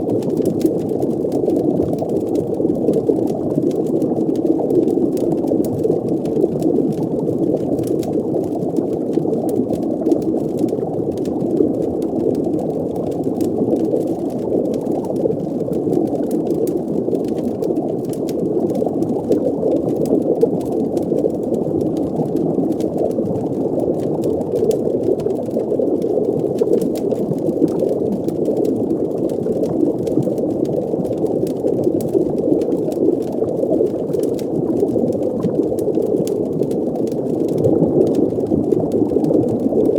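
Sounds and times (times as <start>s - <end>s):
deep underwater rumble: 0.0s - 39.9s
faint crackles: 0.0s - 39.9s
muffled bubbling water: 0.0s - 39.9s.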